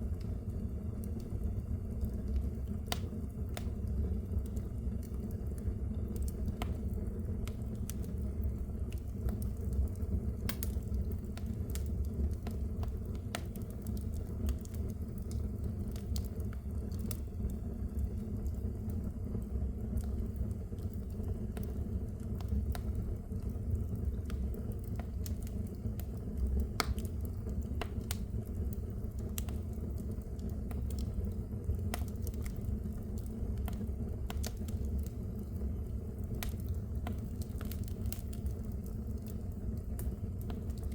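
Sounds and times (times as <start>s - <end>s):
fire crackling and popping: 0.0s - 40.9s
fire flames rumbling: 0.0s - 40.9s.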